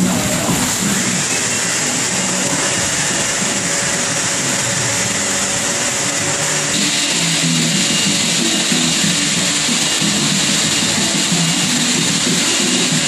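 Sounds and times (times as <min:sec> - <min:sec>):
loud motor noise: 0:00.0 - 0:13.0.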